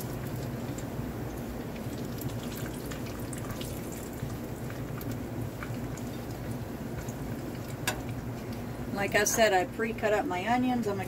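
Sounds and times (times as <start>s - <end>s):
bacon sizzling with crackles: 0.0s - 9.5s.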